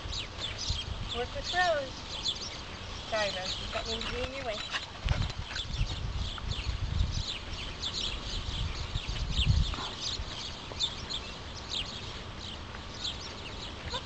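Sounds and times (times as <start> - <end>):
small birds chirping: 0.0 - 14.0
wind gusts on microphone: 0.0 - 14.0.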